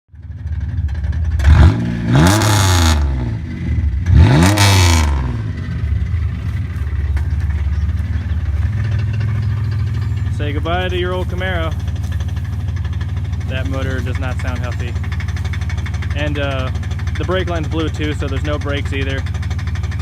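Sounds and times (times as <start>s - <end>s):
car engine revving and idling: 0.1s - 20.0s.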